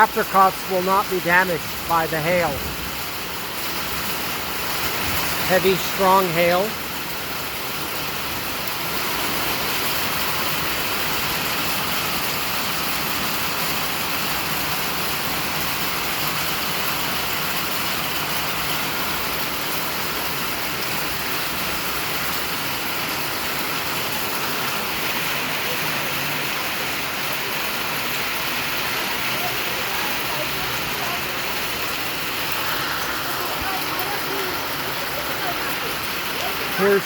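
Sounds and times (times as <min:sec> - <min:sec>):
heavy hail falling: 0:00.2 - 0:37.0.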